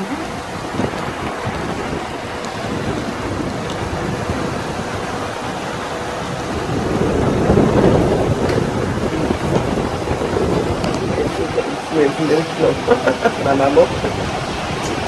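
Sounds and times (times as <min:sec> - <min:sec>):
heavy rain: 0:00.0 - 0:15.0
hurricane wind: 0:00.0 - 0:15.0.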